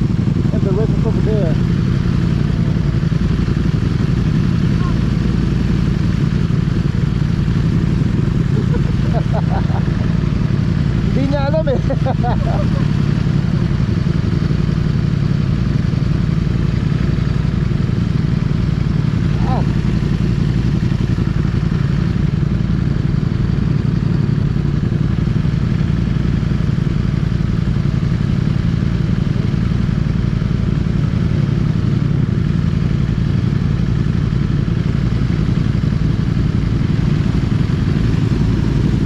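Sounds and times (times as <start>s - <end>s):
motorcycle engine rumble: 0.0s - 39.0s.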